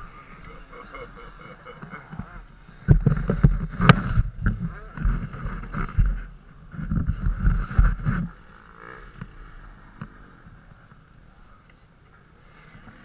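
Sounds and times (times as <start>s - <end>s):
motocross bike engine running: 0.0s - 11.1s.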